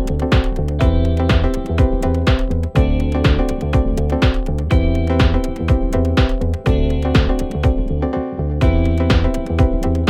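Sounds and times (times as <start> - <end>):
electronic music with drum beat: 0.0 - 8.0, 8.6 - 10.0.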